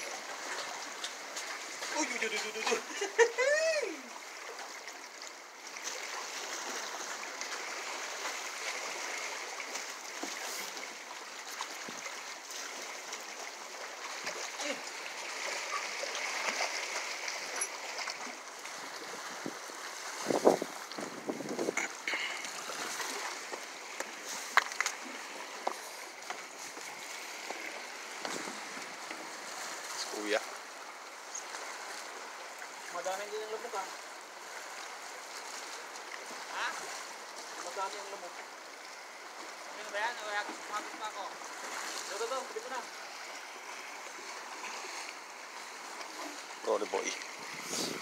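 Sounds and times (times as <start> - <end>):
waves splashing against rocks: 0.0 - 48.0.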